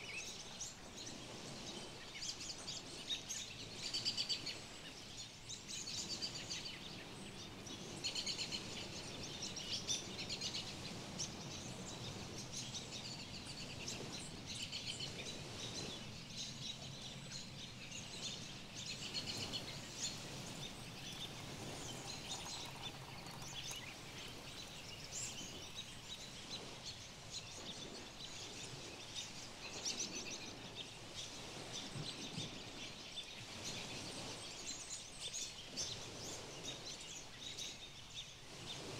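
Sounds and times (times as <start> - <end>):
small birds chirping: 0.0 - 31.4.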